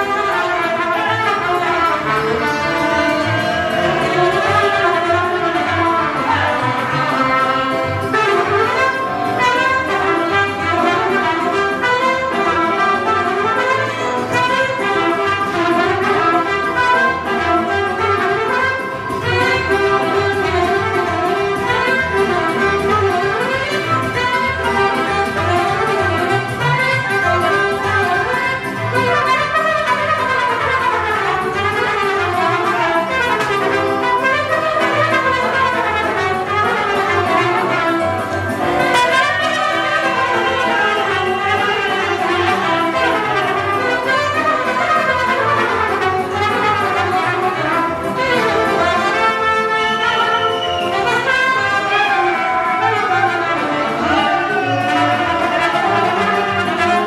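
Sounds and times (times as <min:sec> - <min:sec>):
band backing beat: 0:00.0 - 0:57.0
trumpet playing folk dance tune: 0:00.0 - 0:57.0.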